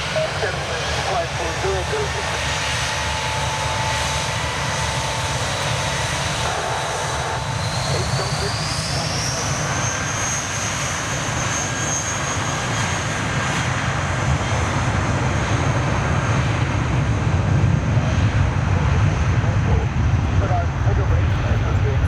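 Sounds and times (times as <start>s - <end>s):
jet engine roar and rumble: 0.0s - 22.0s
jet engine whine: 0.0s - 22.0s.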